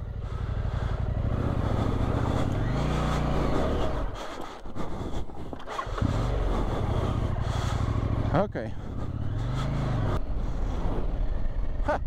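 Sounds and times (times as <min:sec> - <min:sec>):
motorcycle engine revving: 0:00.0 - 0:04.4, 0:05.6 - 0:12.0.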